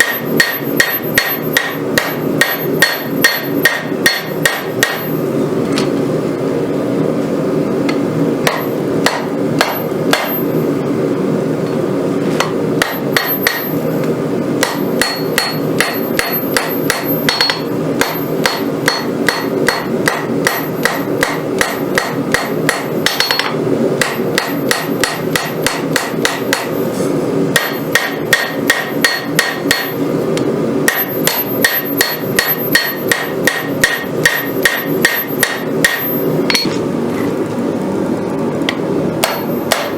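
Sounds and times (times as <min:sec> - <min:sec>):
hammer striking steel on anvil: 0:00.0 - 0:05.3, 0:07.9 - 0:10.5, 0:12.4 - 0:13.8, 0:14.6 - 0:26.8, 0:27.5 - 0:36.8, 0:38.7 - 0:39.9.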